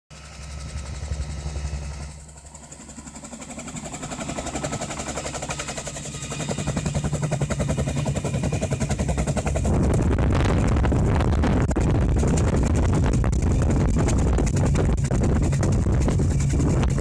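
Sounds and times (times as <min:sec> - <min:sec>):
helicopter engine: 0:00.1 - 0:17.0
helicopter rotor beating: 0:00.1 - 0:17.0.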